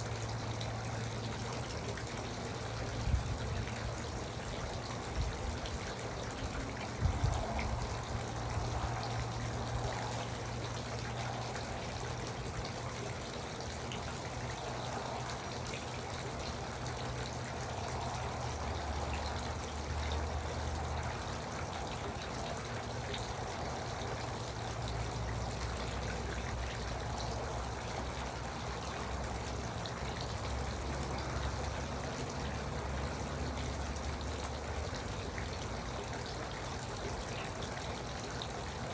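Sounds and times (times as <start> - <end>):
water fountain trickling and splashing: 0.0 - 38.9.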